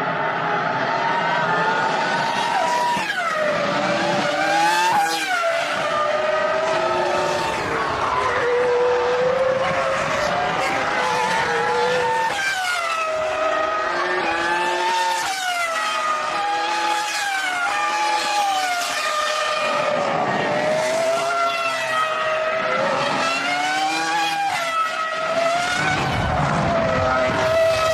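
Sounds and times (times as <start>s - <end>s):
racing car engines revving: 0.0s - 27.9s.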